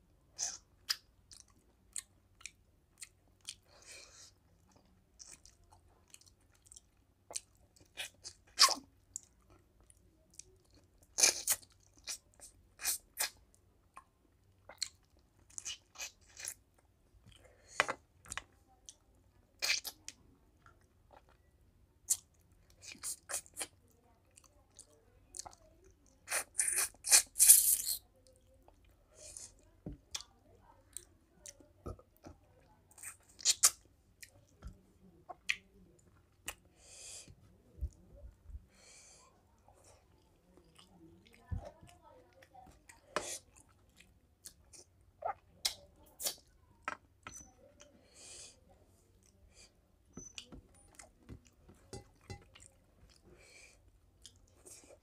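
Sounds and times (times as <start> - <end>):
man chewing with wet smacks: 0.4 - 38.6, 39.5 - 47.9, 49.2 - 55.0.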